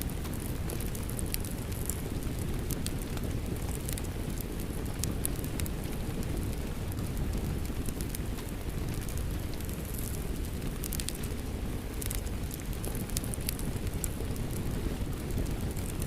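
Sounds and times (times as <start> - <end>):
fireplace crackling: 0.1 - 16.0.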